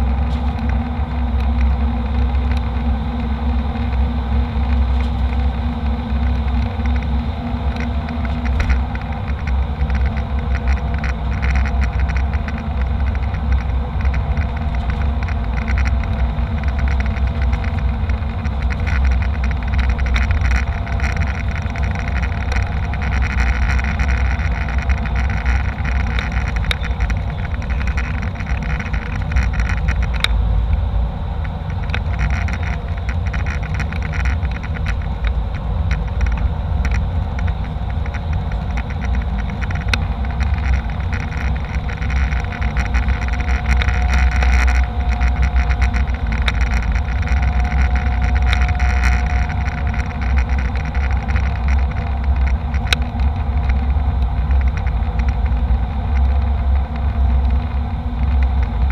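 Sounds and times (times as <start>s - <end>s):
airliner cabin rumble: 0.0s - 58.9s
faint steady whine: 0.0s - 58.9s.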